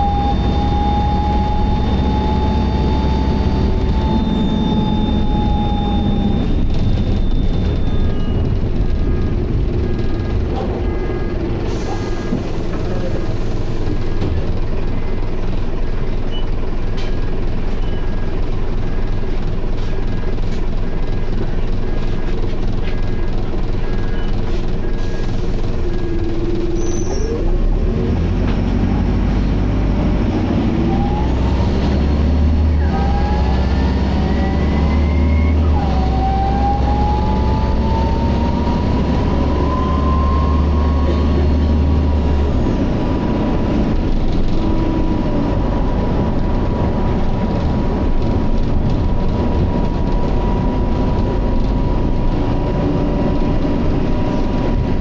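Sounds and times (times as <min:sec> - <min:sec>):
heavy low engine rumble: 0:00.0 - 0:55.0.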